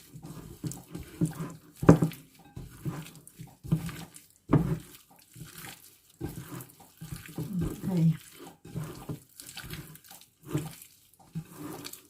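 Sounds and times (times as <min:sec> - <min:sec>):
wet squelching and slapping: 0:00.0 - 0:12.0.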